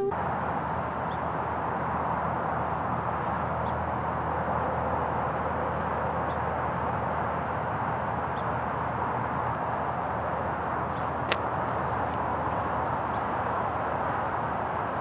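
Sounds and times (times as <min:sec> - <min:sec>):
highway traffic drone: 0:00.0 - 0:15.0.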